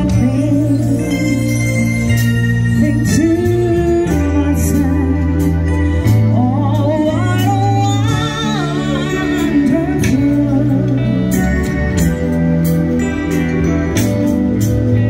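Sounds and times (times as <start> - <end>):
woman singing into a microphone: 0.0 - 12.2
bass guitar long notes: 0.0 - 15.0
electric guitar: 0.0 - 15.0
keyboard: 0.0 - 15.0.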